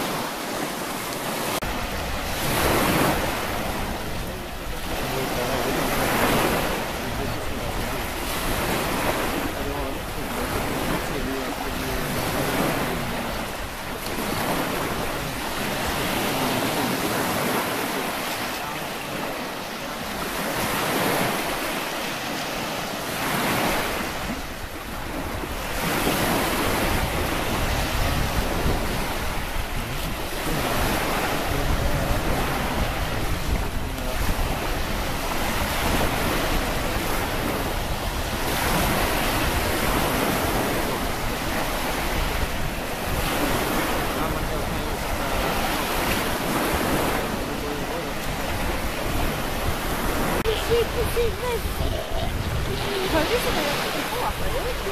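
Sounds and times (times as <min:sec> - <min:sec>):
surf breaking on sandy shore: 0:00.0 - 0:54.9
wind buffeting microphone: 0:00.0 - 0:54.9.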